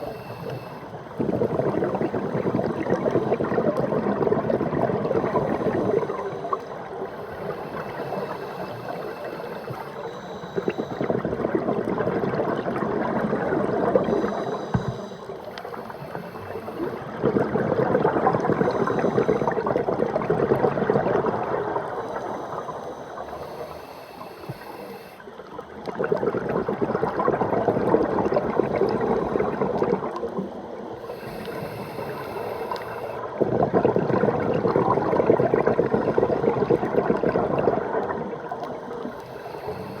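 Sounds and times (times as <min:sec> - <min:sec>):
underwater bubbling and gurgling: 0:00.0 - 0:40.0.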